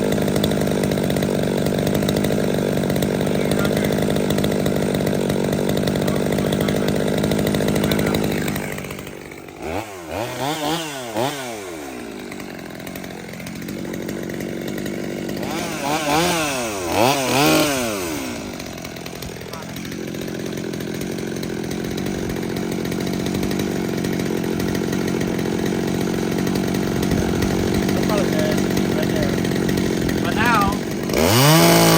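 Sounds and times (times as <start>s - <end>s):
chainsaw engine revving: 0.0s - 31.9s.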